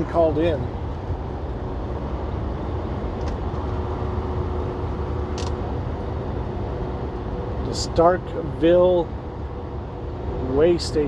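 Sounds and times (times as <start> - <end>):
road rumble: 0.0 - 11.0
truck engine drone: 0.0 - 11.0.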